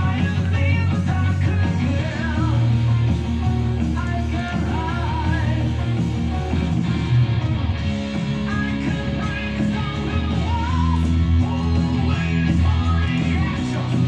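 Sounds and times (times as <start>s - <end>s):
person singing: 0.0s - 6.0s, 8.2s - 14.0s
rock band music: 0.0s - 14.0s.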